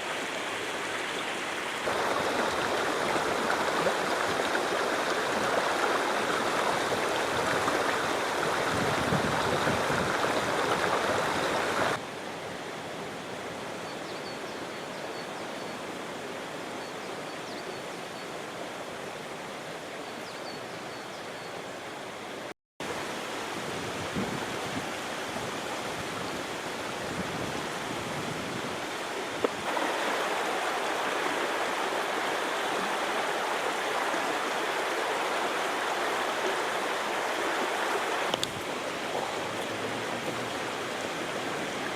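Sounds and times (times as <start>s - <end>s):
water rushing: 0.0s - 13.6s, 21.8s - 41.9s.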